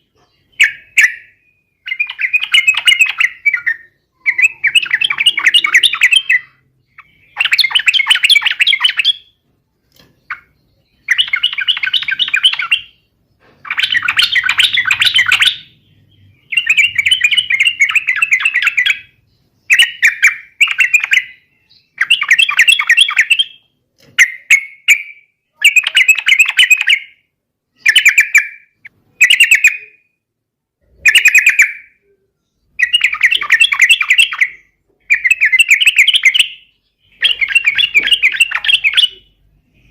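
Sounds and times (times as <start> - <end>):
bulbul singing: 0.0 - 30.2, 30.8 - 39.9.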